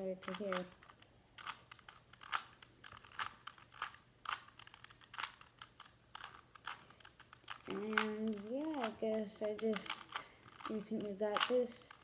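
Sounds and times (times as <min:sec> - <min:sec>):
puzzle cube plastic clicks: 0:00.0 - 0:12.0.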